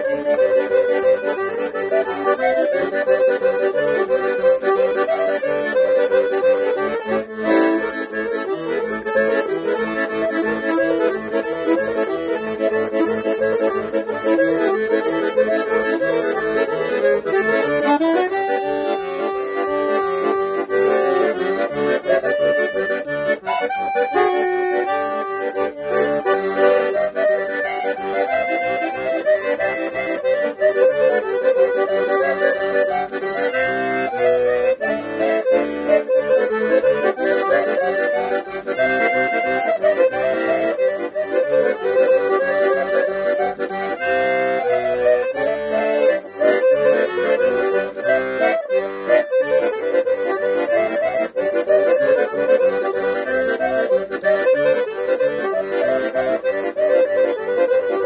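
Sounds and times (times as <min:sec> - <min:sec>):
accordion melody with pulsing bass: 0:00.0 - 0:58.0.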